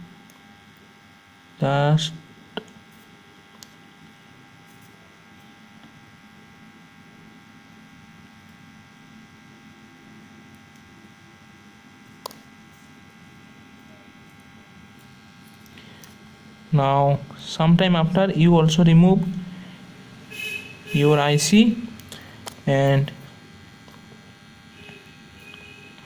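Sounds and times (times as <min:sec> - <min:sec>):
soldering gun humming: 0:00.0 - 0:26.0.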